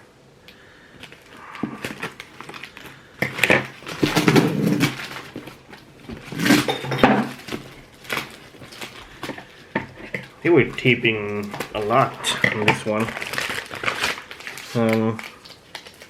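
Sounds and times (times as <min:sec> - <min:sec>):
packing tape ripping: 0:00.5 - 0:16.0
cardboard box rustling: 0:01.0 - 0:16.0.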